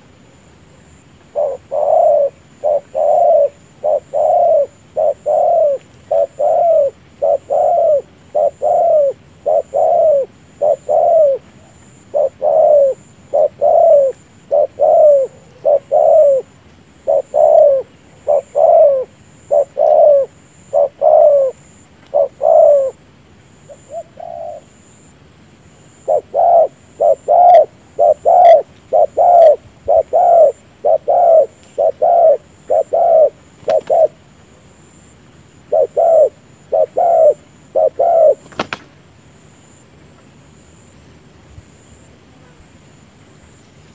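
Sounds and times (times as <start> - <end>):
dove cooing: 0.8 - 23.0, 23.6 - 25.1, 25.8 - 34.2, 35.6 - 38.8.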